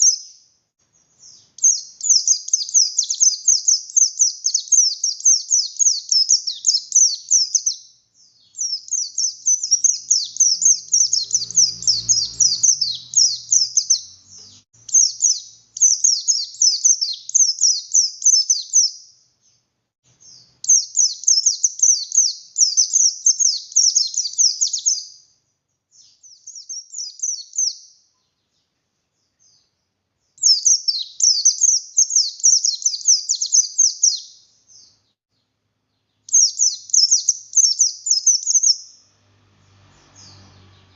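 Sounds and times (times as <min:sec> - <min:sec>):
bird chattering song: 0:00.0 - 0:00.4, 0:01.0 - 0:25.3, 0:25.9 - 0:35.2, 0:35.9 - 0:39.0.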